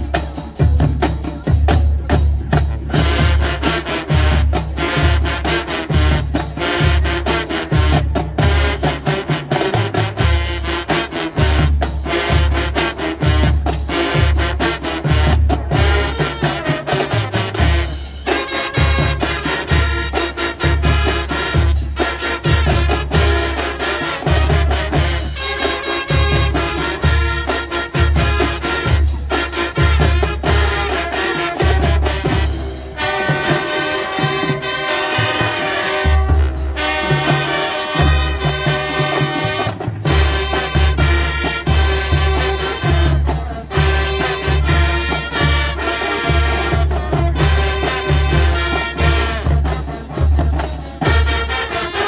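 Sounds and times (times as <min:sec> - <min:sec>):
marching band playing: 0:00.0 - 0:52.0.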